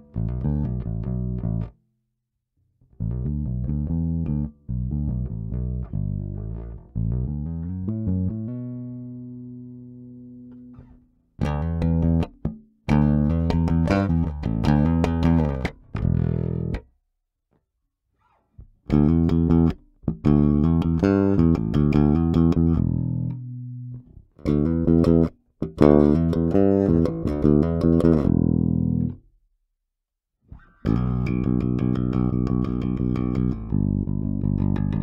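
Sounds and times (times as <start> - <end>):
electric bass played fingerstyle: 0.0 - 1.8, 2.8 - 17.0, 18.2 - 29.3, 30.5 - 35.0.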